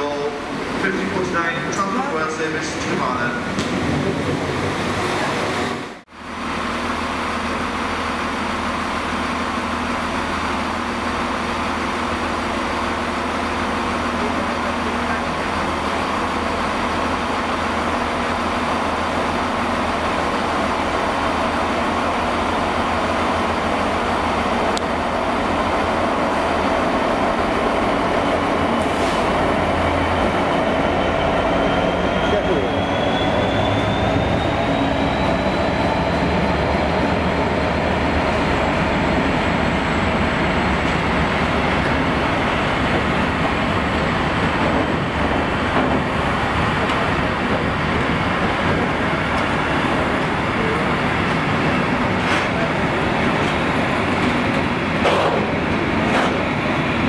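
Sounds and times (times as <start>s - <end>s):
diesel locomotive engine drone: 0.0s - 57.0s
diesel train passing: 0.0s - 57.0s.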